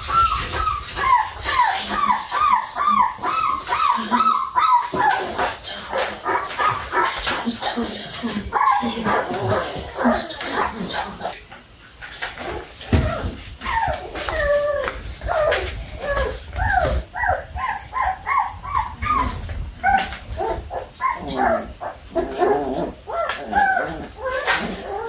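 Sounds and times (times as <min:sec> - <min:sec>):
puppies whining and yipping: 0:00.0 - 0:07.4, 0:08.5 - 0:10.7, 0:12.1 - 0:25.0.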